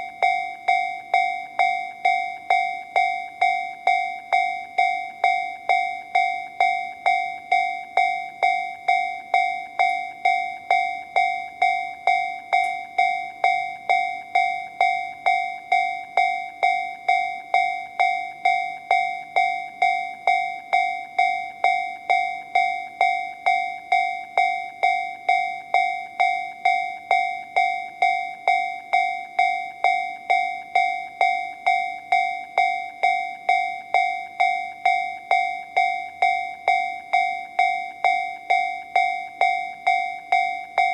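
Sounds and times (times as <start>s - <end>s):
level crossing alarm dinging: 0.0s - 40.9s.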